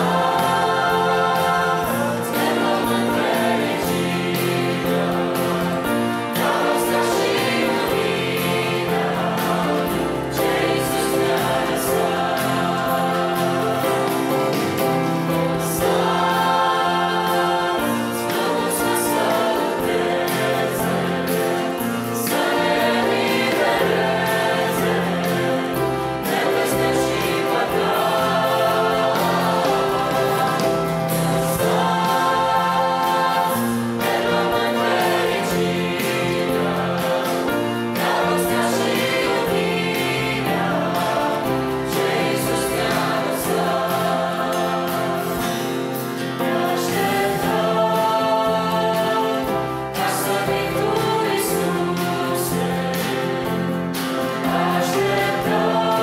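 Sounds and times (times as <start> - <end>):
choir singing in parts: 0.0 - 56.0
instrumental accompaniment: 0.0 - 56.0.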